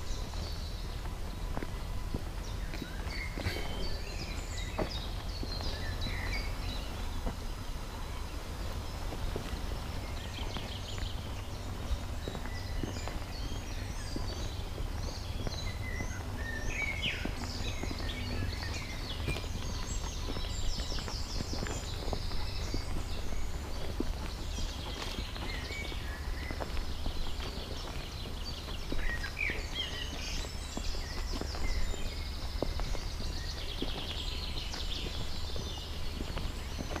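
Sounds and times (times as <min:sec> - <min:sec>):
faint footstep clicks: 0:00.0 - 0:37.0
songbirds chirping and trilling: 0:00.0 - 0:37.0
steady low rumble: 0:00.0 - 0:37.0.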